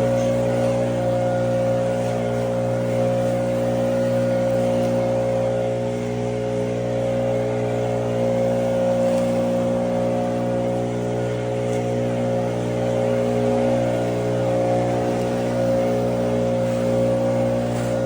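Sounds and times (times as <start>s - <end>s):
small engine humming: 0.0s - 18.0s.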